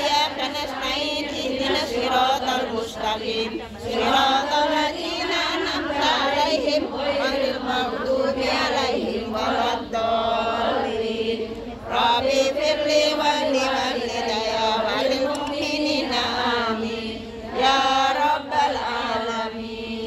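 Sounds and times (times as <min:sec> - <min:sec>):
women chanting in unison: 0:00.0 - 0:20.0.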